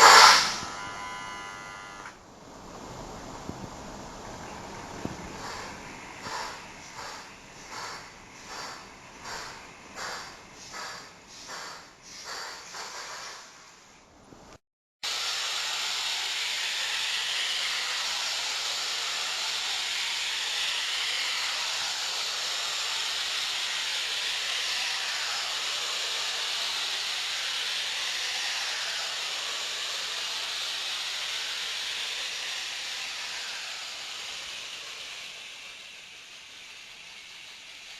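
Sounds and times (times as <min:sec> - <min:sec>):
simulated steam locomotive chuffing: 0:00.0 - 0:01.8, 0:04.0 - 0:13.8, 0:15.0 - 0:37.9
continuous steam hiss: 0:00.0 - 0:37.9.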